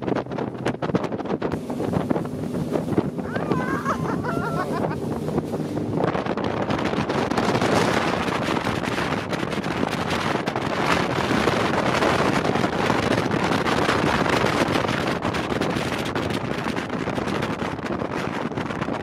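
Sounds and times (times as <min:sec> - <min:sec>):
speedboat running at speed: 0:00.0 - 0:19.0
wind buffeting microphone: 0:00.0 - 0:19.0.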